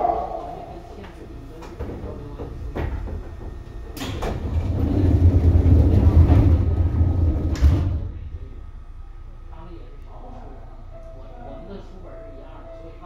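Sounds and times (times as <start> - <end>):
electric train running rumble: 0.0 - 13.0.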